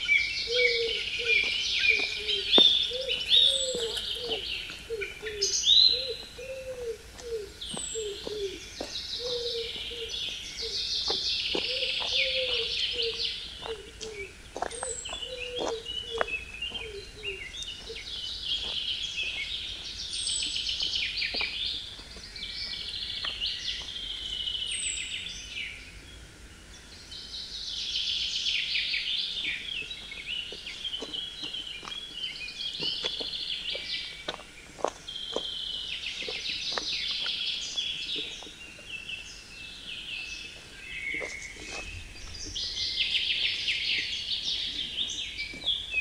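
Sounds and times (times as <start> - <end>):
birds chattering and trilling: 0.0 - 46.0.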